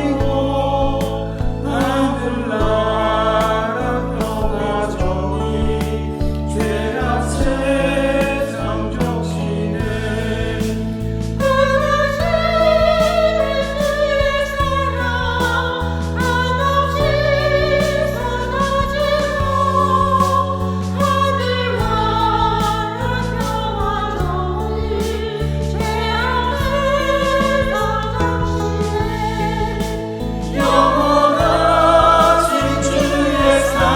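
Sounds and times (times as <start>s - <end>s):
church choir singing: 0.0s - 33.9s
low accompaniment: 0.0s - 33.9s.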